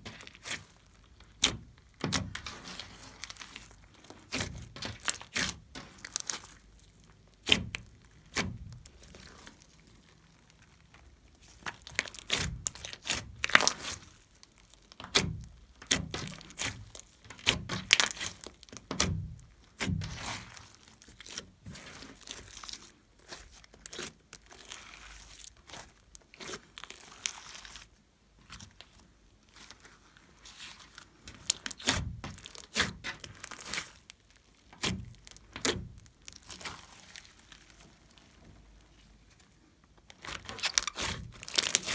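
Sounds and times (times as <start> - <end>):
slime squelching thuds: 0.0 - 10.5, 11.4 - 27.8, 28.4 - 38.4, 40.2 - 41.9
sticky slime clicks and crackles: 0.1 - 29.8, 30.4 - 38.4, 39.9 - 41.9.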